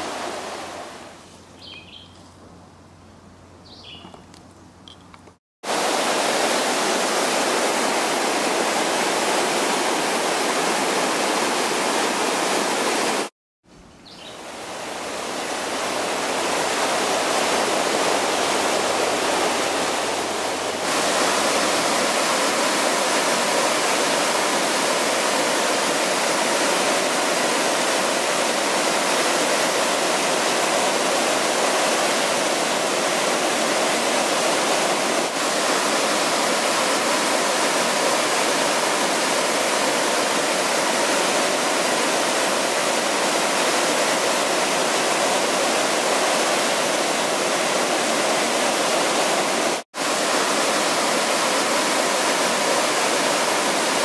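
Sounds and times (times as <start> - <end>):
river rapids rushing over rocks: 5.7 - 13.3, 14.4 - 54.0.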